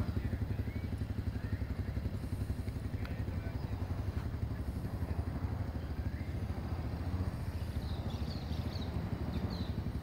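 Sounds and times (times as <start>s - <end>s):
small motorcycle engine pulsing: 0.0s - 10.0s.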